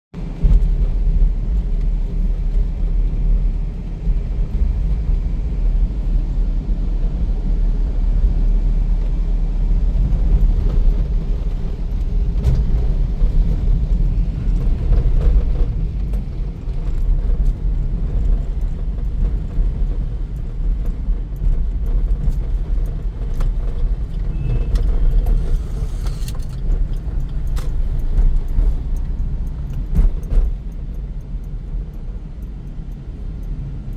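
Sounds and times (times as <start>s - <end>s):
road and tyre noise: 0.2s - 33.9s.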